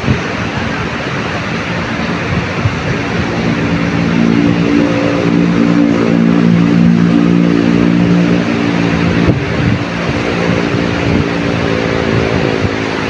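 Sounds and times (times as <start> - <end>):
motor engine humming: 0.0 - 13.0
surf rushing: 0.0 - 13.0
wind: 0.0 - 13.0.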